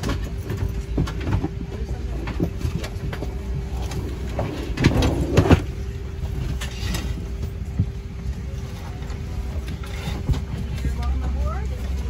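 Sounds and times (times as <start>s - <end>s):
cabin air system rumble: 0.0s - 12.0s.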